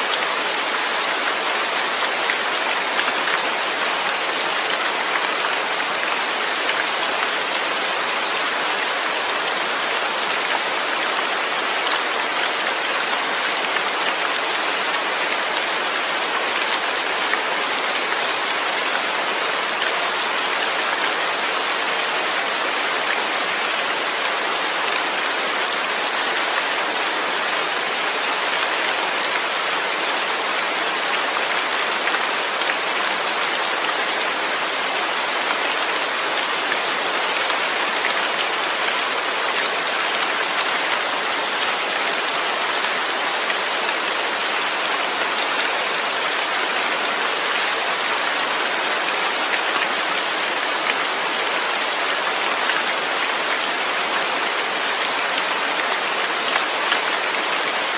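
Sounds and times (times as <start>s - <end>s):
rain falling on surfaces: 0.0s - 57.9s.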